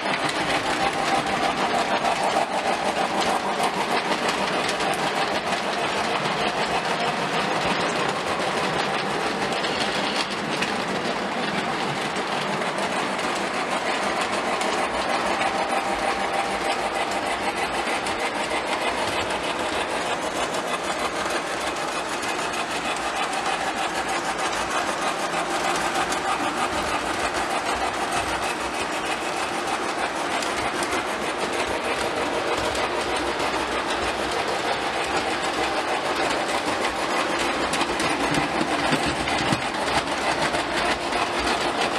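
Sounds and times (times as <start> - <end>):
metal wheels rolling on rails: 0.0 - 41.9
model train motors whirring: 0.0 - 41.9.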